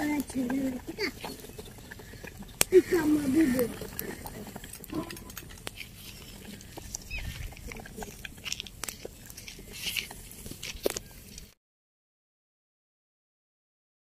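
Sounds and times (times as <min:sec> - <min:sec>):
metal ladle stirring in pot: 0:00.0 - 0:11.5
wood fire crackling: 0:00.0 - 0:11.6.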